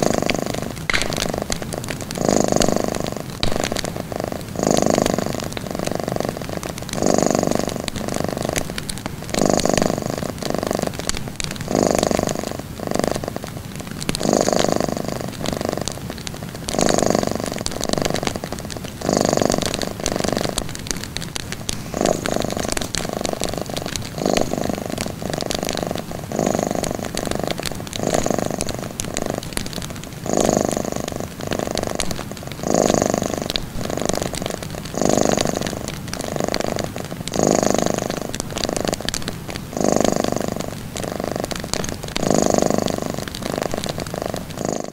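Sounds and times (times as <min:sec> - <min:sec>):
cat purring: 0:00.0 - 0:44.9.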